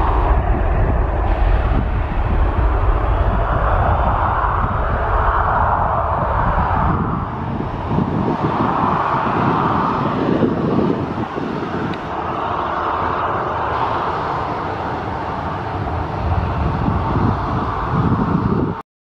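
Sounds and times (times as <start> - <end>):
jet engines roaring at takeoff: 0.0 - 18.8.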